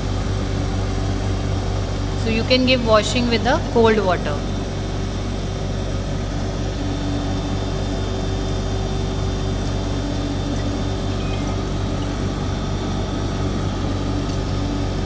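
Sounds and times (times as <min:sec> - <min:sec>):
suction pump humming: 0:00.0 - 0:15.0.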